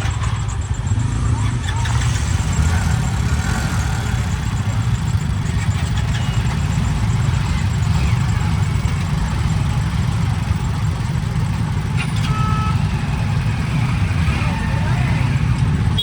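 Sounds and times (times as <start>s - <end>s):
low vehicle engine rumble: 0.0s - 16.0s.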